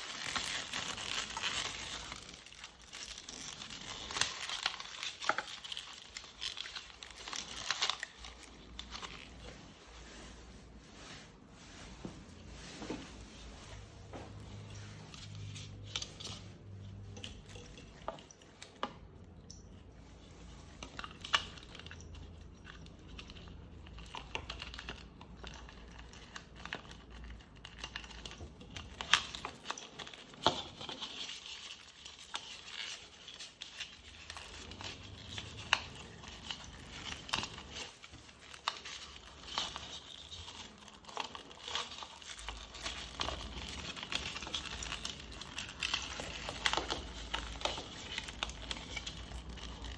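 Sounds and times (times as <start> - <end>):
rustling and crinkling: 0.0 - 49.9.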